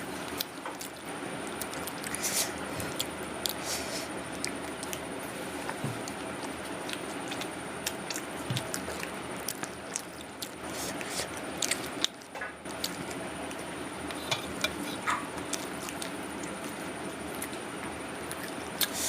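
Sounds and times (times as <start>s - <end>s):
person chewing food: 0.2s - 19.0s.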